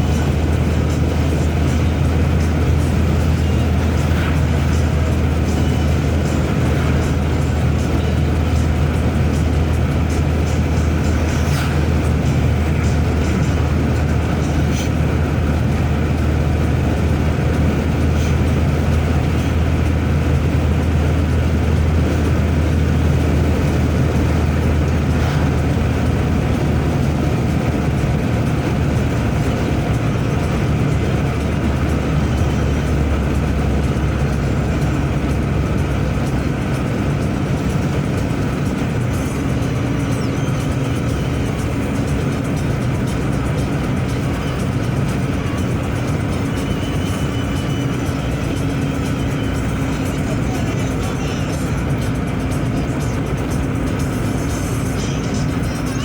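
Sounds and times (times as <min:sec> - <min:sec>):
road noise: 0:00.0 - 0:56.0
vehicle engine rumble: 0:00.0 - 0:56.0.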